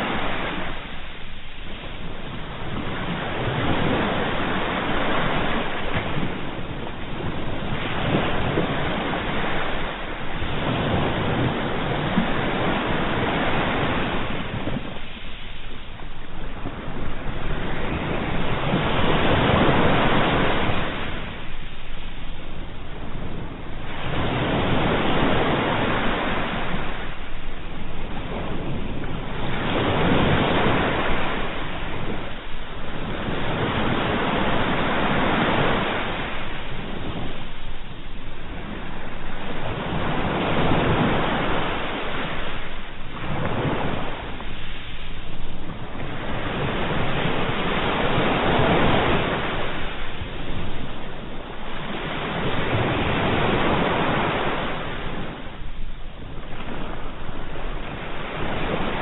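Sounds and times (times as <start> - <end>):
sea waves breaking ashore: 0.0 - 59.0.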